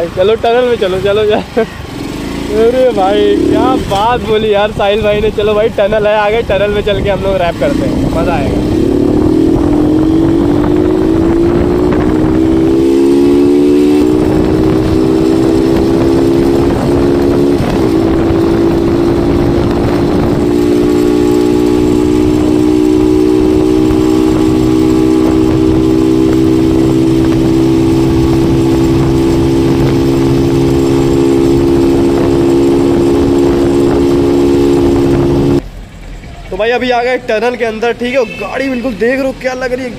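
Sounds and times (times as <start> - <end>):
motorcycle engine accelerating: 0.8 - 36.2
wind on microphone: 2.8 - 35.6.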